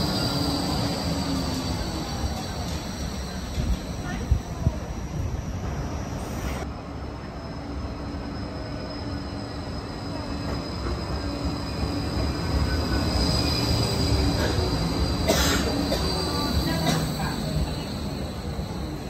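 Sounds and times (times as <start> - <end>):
high steady squeal: 0.0 - 6.6, 7.3 - 19.0
tram running noise: 0.0 - 19.0.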